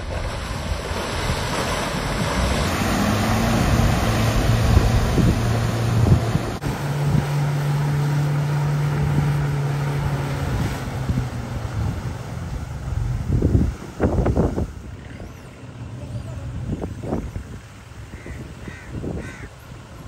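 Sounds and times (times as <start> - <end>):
engine pulling hard: 0.0 - 20.0
wheels splashing mud: 0.0 - 20.0
wind on microphone: 0.0 - 20.0.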